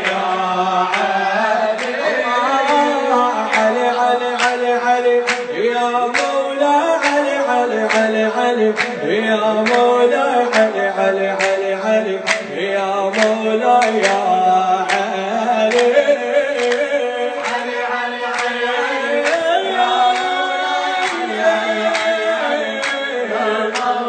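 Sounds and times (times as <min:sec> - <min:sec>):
man chanting into a microphone: 0:00.0 - 0:24.0.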